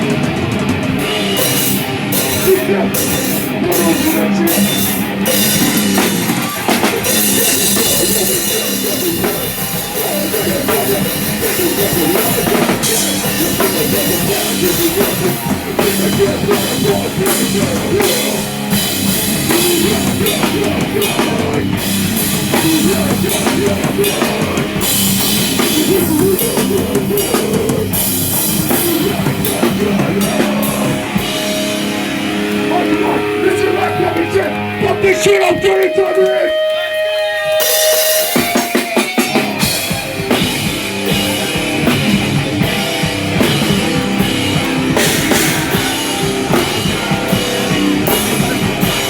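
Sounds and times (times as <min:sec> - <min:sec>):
busy drum kit: 0:00.0 - 0:49.0
live heavy rock band: 0:00.0 - 0:49.0.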